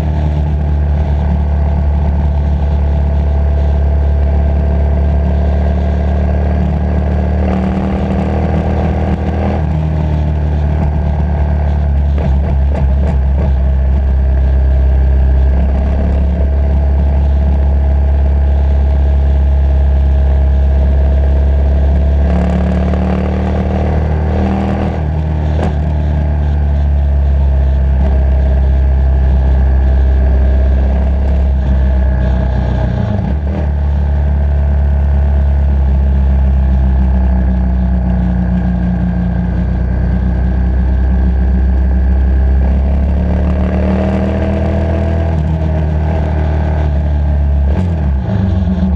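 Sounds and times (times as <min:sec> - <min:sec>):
motorcycle engine droning: 0:00.0 - 0:48.9.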